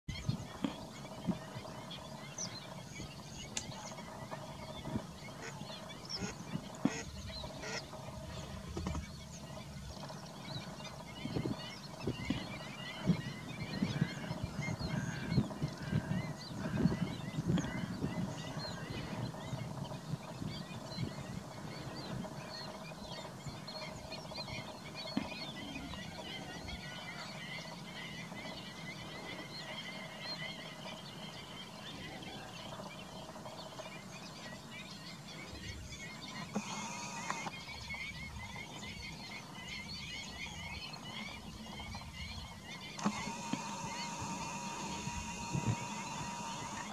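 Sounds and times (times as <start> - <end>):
flock of birds calling: 0.1 - 46.9.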